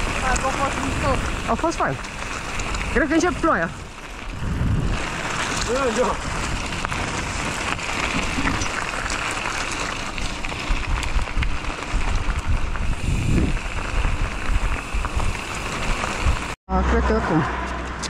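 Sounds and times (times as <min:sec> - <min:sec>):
tyres crunching over gravel: 0:00.0 - 0:16.6
wind rumble on microphone: 0:00.0 - 0:16.6.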